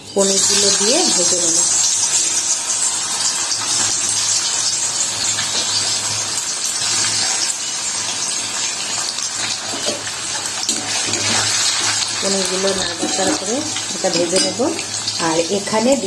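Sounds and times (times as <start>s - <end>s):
cheese cubes sizzling in oil: 0.0s - 16.0s.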